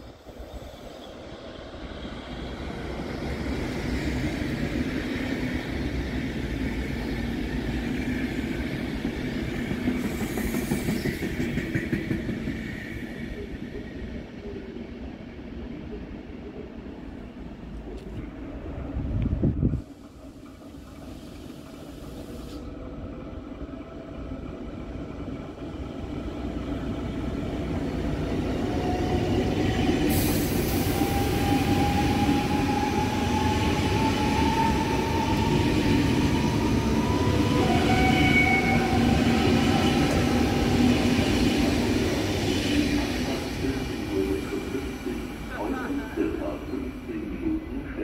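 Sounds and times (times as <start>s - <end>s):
train wheels rumbling on rails: 0.0s - 14.6s, 17.6s - 48.0s.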